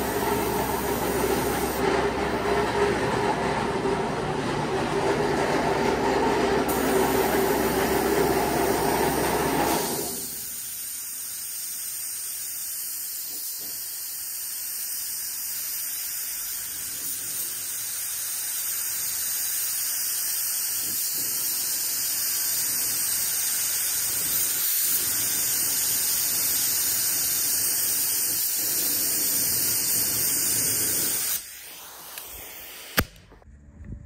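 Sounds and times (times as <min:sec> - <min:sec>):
loud hissing spray: 0:00.0 - 0:01.8, 0:06.7 - 0:33.1.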